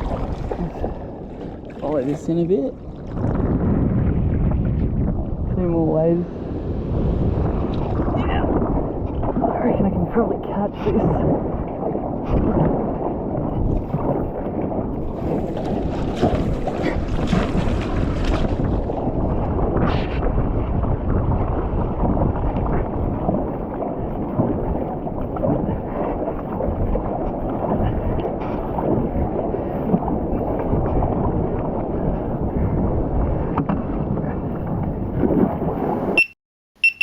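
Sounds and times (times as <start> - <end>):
water splashing: 0.0 - 32.8
water rushing around kayak: 0.0 - 36.2
wind buffeting microphone: 0.0 - 36.2.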